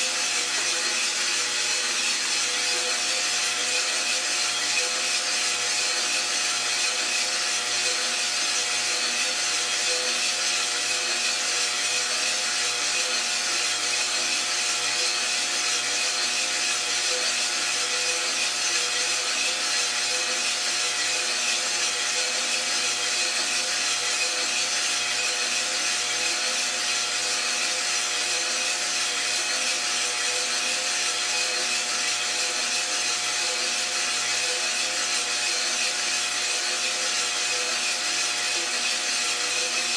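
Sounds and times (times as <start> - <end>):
coffee beans tumbling in drum: 0.0 - 39.9
motor and fan hum: 0.0 - 39.9.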